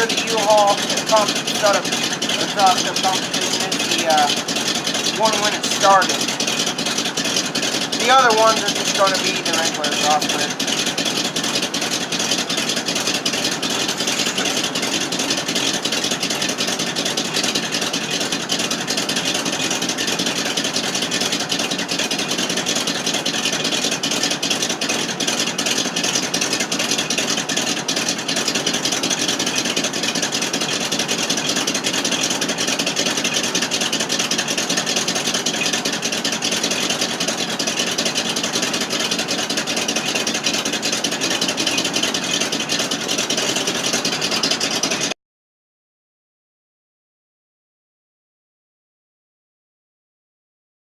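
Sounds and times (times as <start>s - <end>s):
truck engine idling: 0.0s - 45.2s.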